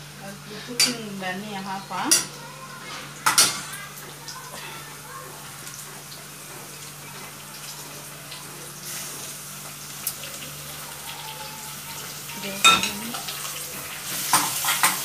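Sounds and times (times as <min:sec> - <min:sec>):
onions and meat sizzling in pans: 0:00.0 - 0:15.0.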